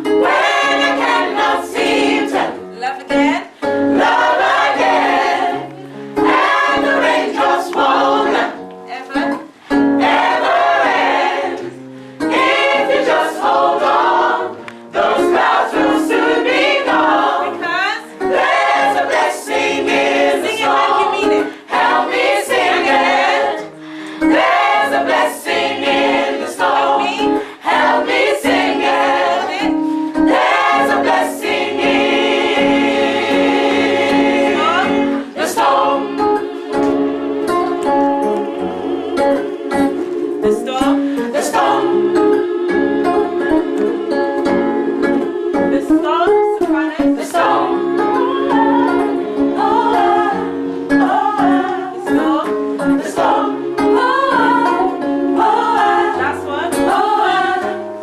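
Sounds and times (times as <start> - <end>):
gospel choir singing: 0.0 - 58.0.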